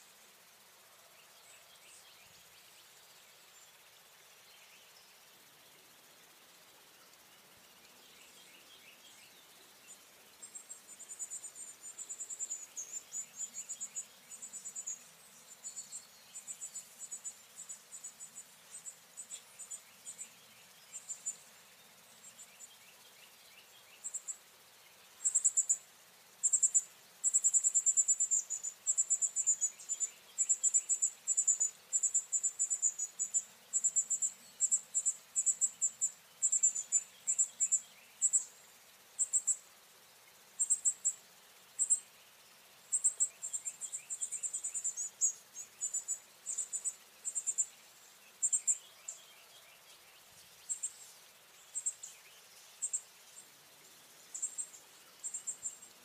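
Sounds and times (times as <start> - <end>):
insect buzzing trills: 1.4 - 56.0.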